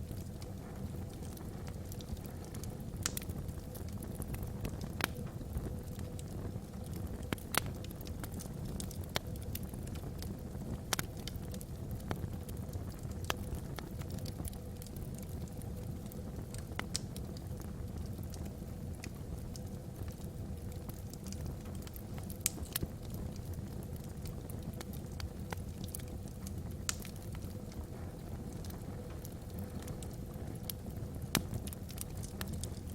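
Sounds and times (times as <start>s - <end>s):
low rush of fire: 0.0s - 32.9s
wood crackling and popping: 0.0s - 32.9s.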